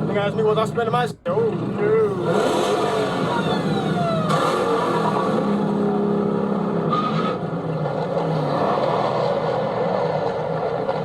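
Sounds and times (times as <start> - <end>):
car engine revving: 1.5 - 11.0.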